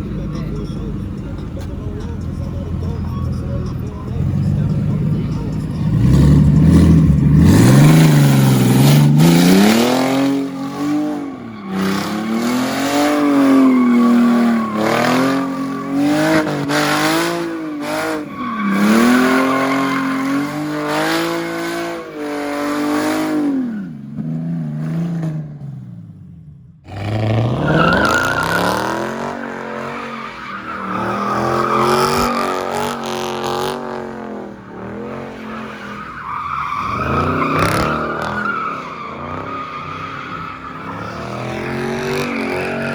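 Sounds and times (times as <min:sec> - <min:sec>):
tyres squealing: 0:00.0 - 0:22.8, 0:27.1 - 0:42.9
car engine revving: 0:00.0 - 0:42.9.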